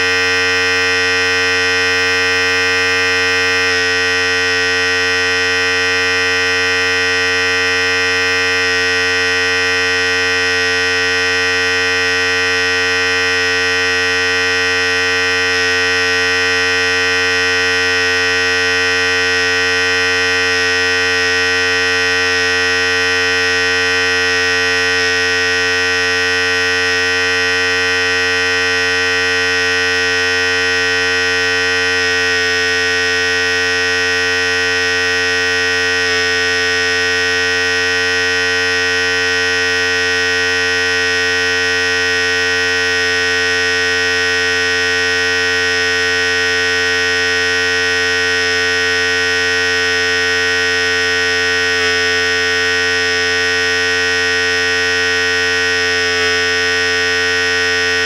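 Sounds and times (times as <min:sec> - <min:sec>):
electric hair clipper buzzing: 0:00.0 - 0:58.0.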